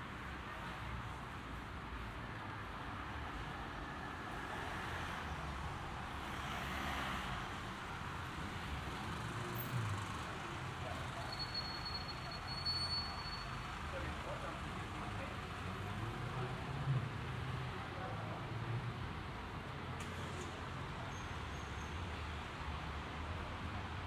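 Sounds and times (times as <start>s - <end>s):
hum of cars: 0.0s - 24.0s.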